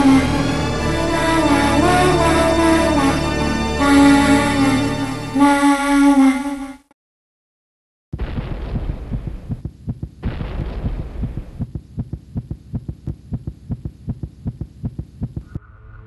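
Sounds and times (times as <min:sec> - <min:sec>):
low throbbing pulse: 0:00.0 - 0:05.4, 0:08.2 - 0:15.9.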